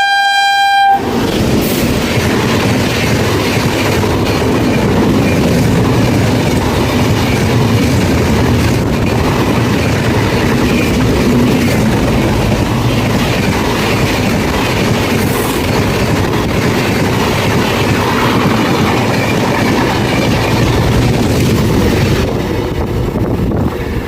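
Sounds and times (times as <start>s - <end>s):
train passing at speed: 0.0s - 24.0s
wheels clattering over rail joints: 1.1s - 24.0s.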